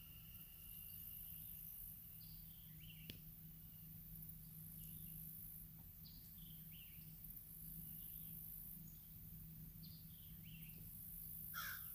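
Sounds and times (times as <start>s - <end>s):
low hum: 0.0s - 11.9s
small birds chirping: 0.0s - 11.9s.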